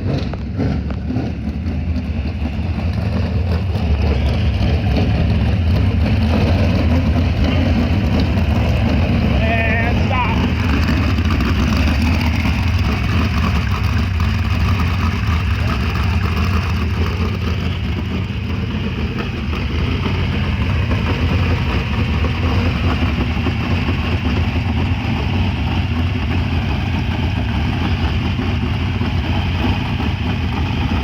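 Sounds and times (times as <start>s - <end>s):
race car engine idling: 0.0s - 31.0s.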